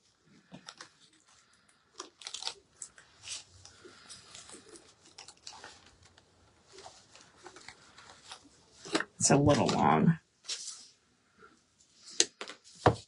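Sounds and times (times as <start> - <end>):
artificial flowers rustling: 0.0 - 13.0.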